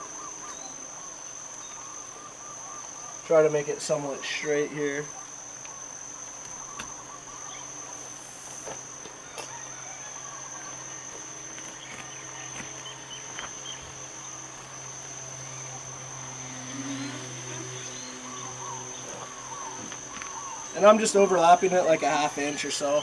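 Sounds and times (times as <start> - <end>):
high-pitched insect chirring: 0.0 - 23.0
low steady hum: 0.0 - 23.0.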